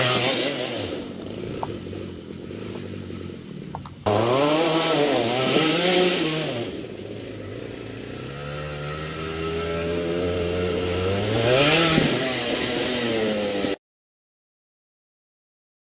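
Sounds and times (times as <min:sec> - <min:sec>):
kart engine running: 0:00.0 - 0:13.8.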